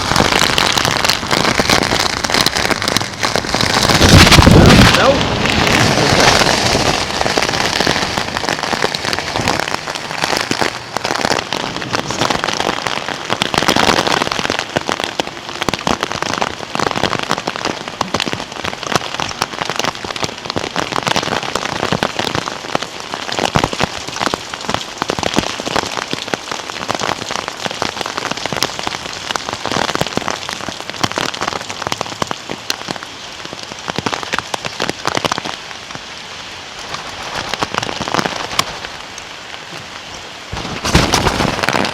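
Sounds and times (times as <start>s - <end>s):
rain falling: 0.0s - 41.9s
raindrops ticking close by: 0.0s - 41.9s.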